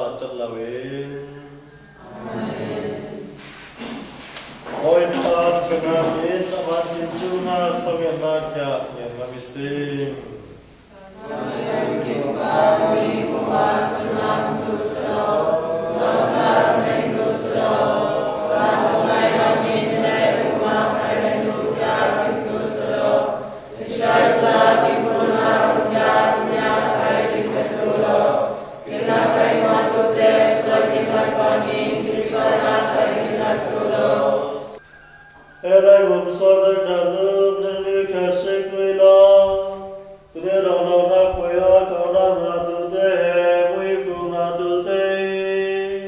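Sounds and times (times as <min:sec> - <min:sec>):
congregation singing: 0:00.0 - 0:46.0.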